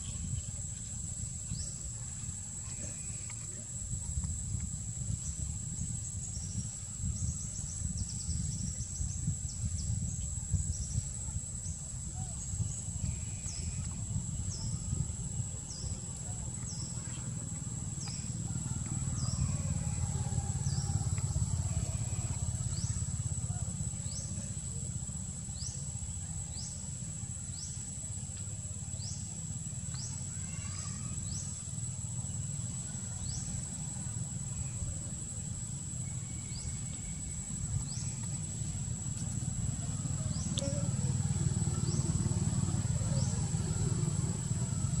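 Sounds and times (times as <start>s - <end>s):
steady high-pitched whine: 0.0s - 45.0s.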